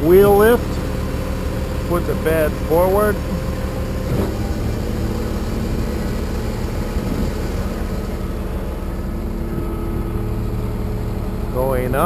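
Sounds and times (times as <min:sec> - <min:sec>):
diesel engine running: 0:00.0 - 0:12.0
hydraulic flatbed moving: 0:00.0 - 0:12.0.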